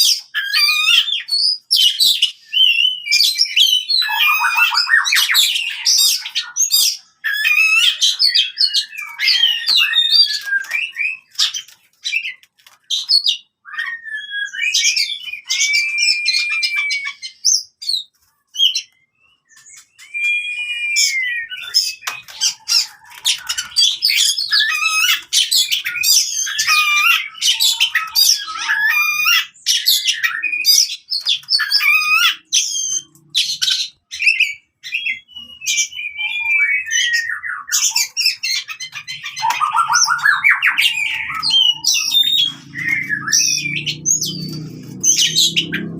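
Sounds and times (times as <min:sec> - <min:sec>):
magpie-robin singing: 0:00.0 - 0:45.9.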